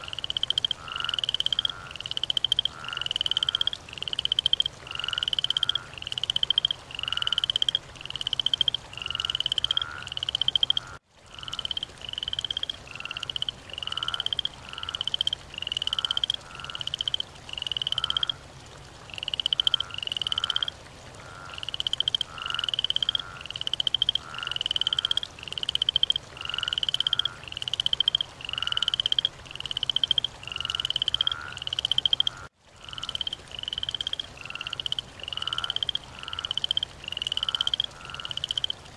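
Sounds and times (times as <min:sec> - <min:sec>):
weaker lower frog call: 0:00.0 - 0:18.4, 0:19.1 - 0:38.8
frogs croaking chorus: 0:00.0 - 0:38.9.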